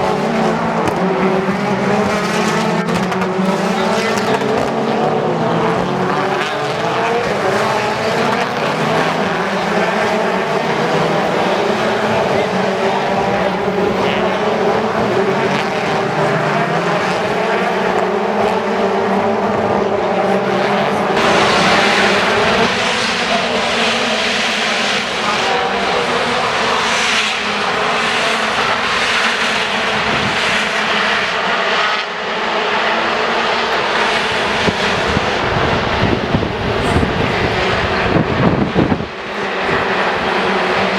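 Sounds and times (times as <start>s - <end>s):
racing car engines droning: 0.0s - 40.9s.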